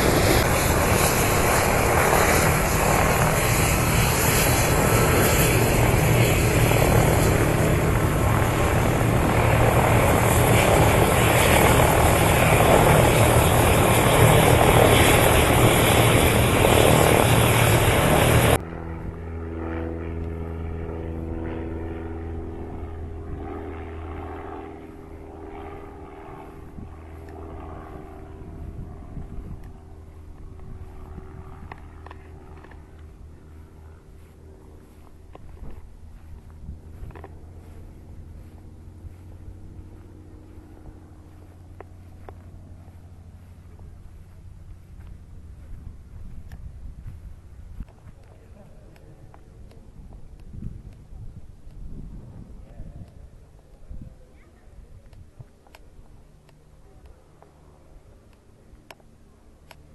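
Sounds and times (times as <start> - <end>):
high whine: 0.0 - 51.0
aircraft engine roaring: 0.0 - 59.9.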